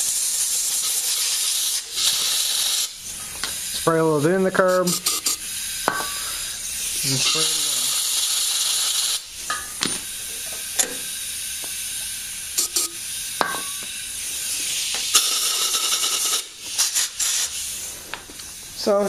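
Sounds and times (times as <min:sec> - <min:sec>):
compressed air hissing: 0:00.0 - 0:19.0
spray hissing: 0:00.0 - 0:19.0.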